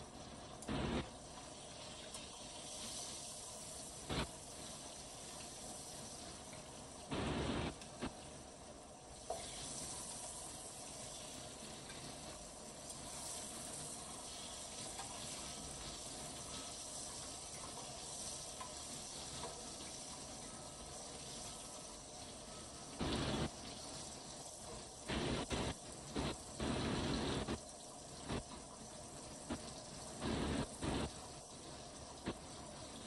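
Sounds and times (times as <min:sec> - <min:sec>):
fish sizzling in frying pan: 0:00.0 - 0:33.0.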